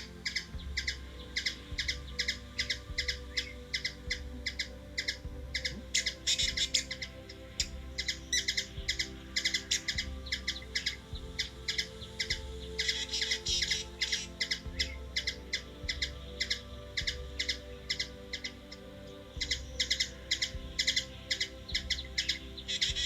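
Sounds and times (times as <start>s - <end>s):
bird chirping high notes: 0.0s - 23.0s.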